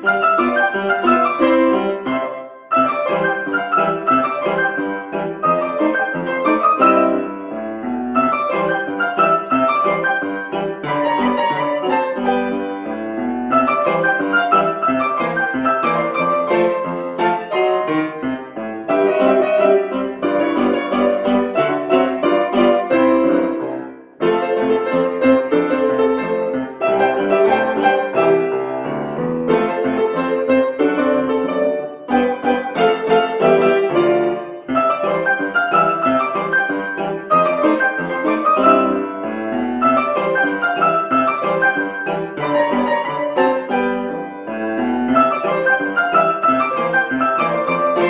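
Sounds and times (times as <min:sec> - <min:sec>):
classical piano piece: 0:00.0 - 0:48.0.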